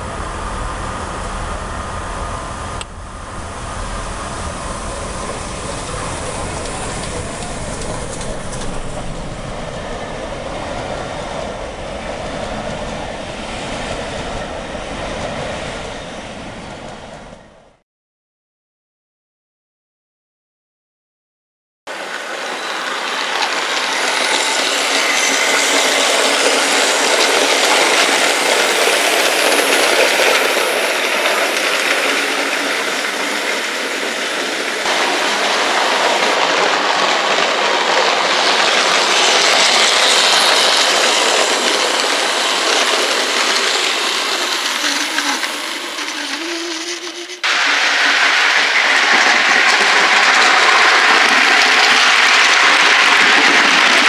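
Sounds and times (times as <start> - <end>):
model train wheels and motor whirring: 0.0 - 17.5, 21.9 - 54.0.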